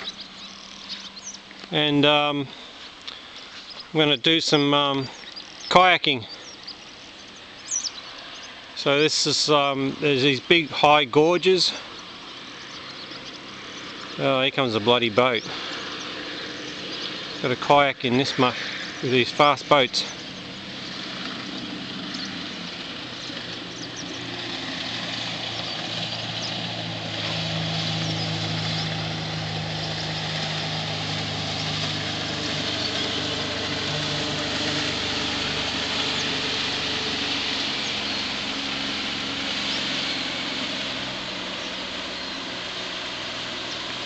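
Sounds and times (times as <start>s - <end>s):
motorboat engine drone: 0.0s - 44.0s.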